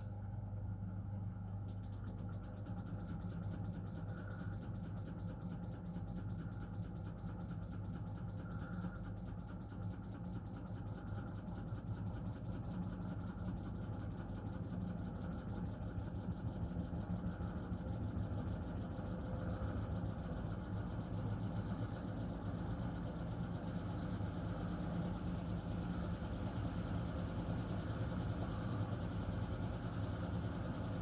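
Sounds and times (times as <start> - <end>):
washing machine spinning: 1.4 - 31.0.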